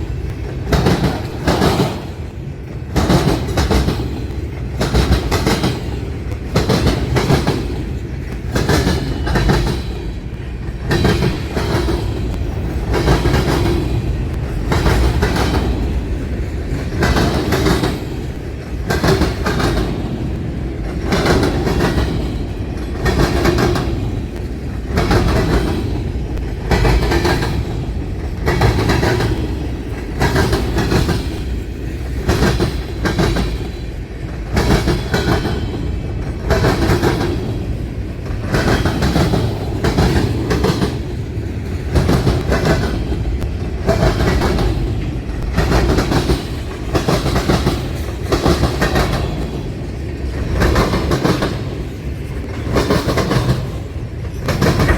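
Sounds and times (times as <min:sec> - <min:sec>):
train wheels clacking over rail joints: 0:00.0 - 0:54.9.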